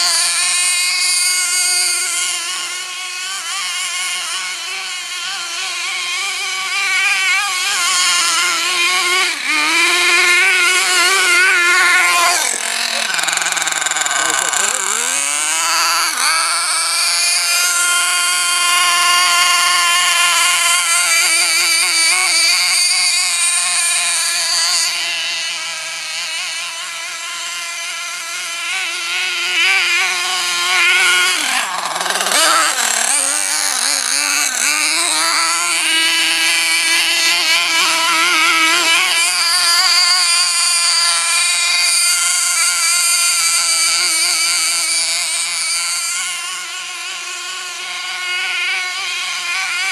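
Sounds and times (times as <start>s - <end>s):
rc truck high-pitched motor: 0.0s - 49.9s.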